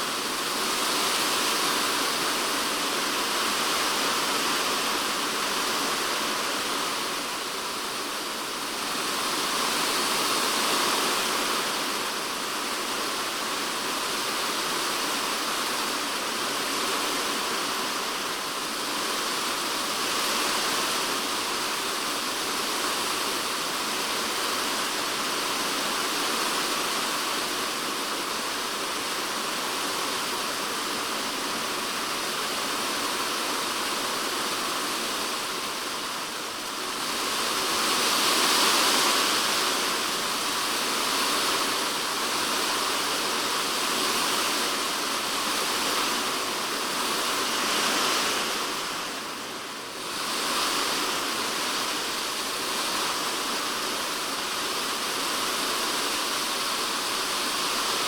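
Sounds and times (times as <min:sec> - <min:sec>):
rain on a plastic roof: 0:00.0 - 0:58.0.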